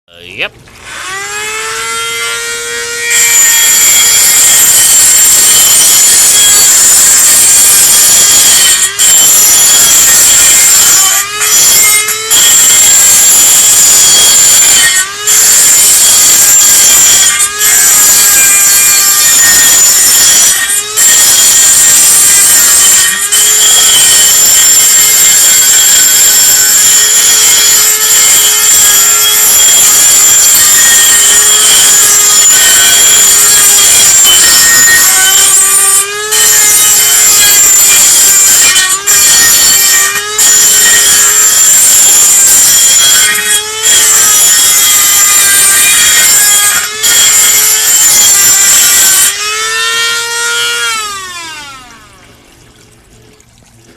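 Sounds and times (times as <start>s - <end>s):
rotary tool running with high whine: 0.3s - 52.6s.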